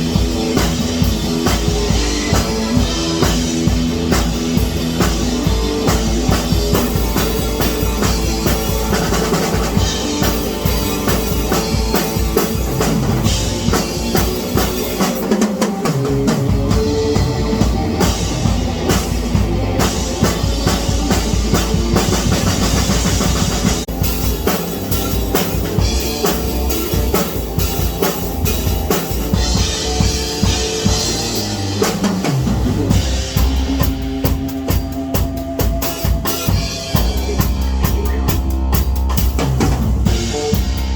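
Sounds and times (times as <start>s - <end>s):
loud rock music: 0.0s - 40.9s.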